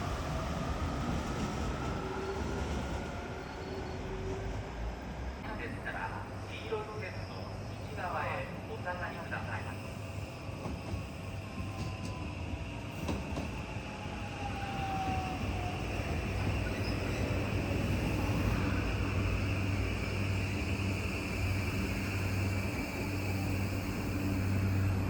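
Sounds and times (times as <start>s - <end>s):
electric train whine: 0.0s - 25.0s
train running hum: 0.0s - 25.0s.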